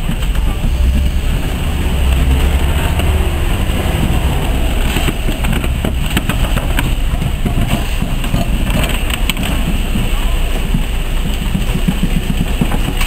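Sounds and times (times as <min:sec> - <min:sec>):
steam locomotive rumbling: 0:00.0 - 0:13.0
wheels clanking and clicking: 0:00.0 - 0:13.0.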